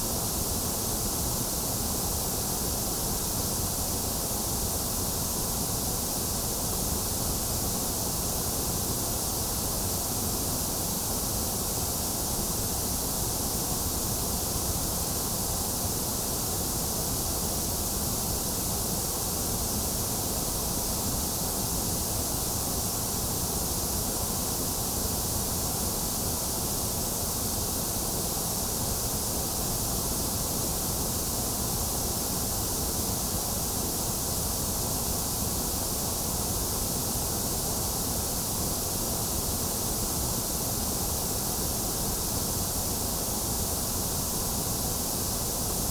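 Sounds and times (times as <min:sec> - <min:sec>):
synthetic white noise hiss: 0:00.0 - 0:45.9.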